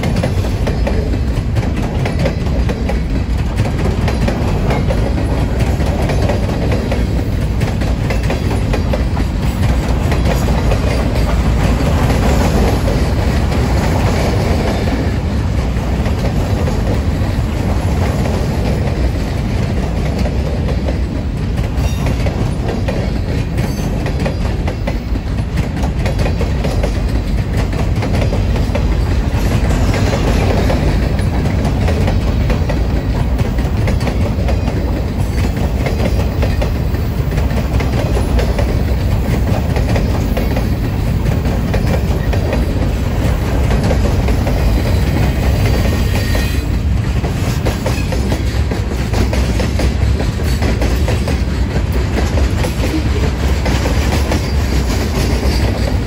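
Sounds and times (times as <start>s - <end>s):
steel wheels rumbling on rail: 0.0s - 56.0s
wheels clacking over rail joints: 0.0s - 56.0s.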